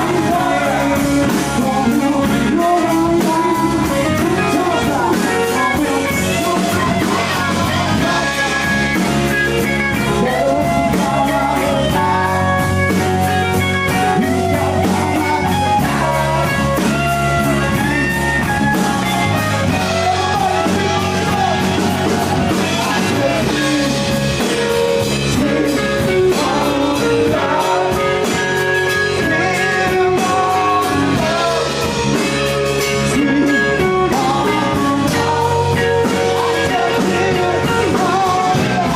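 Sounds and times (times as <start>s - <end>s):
blues-rock band playing live: 0.0s - 38.9s
electric guitar: 0.0s - 38.9s
person singing: 0.0s - 38.9s.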